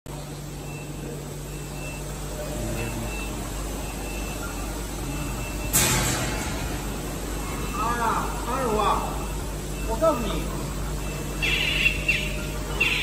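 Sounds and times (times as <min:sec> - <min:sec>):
motor hum: 0:00.1 - 0:13.0.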